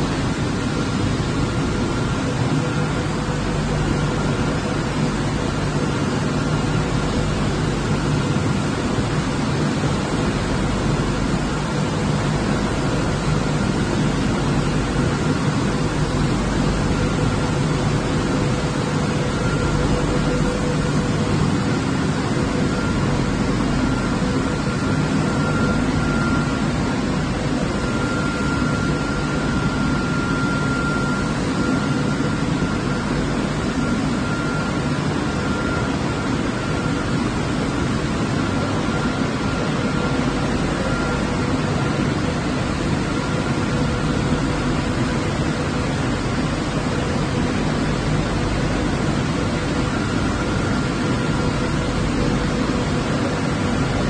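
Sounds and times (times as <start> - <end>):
faint steady whine: 0.0 - 54.0.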